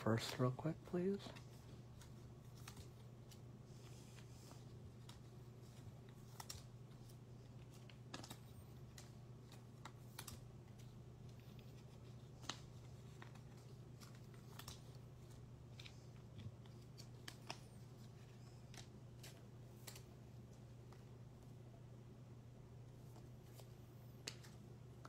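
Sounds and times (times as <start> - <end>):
cards being shuffled: 0.0 - 21.2, 22.9 - 25.0
steady low hum: 0.0 - 25.0.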